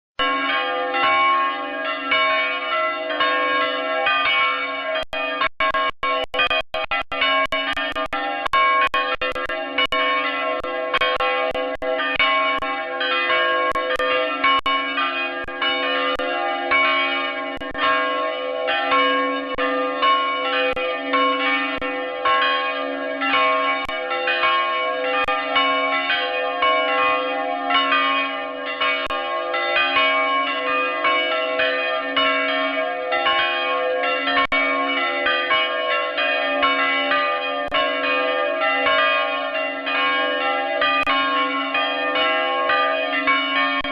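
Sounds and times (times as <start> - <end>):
church bells ringing: 0.2 - 43.9.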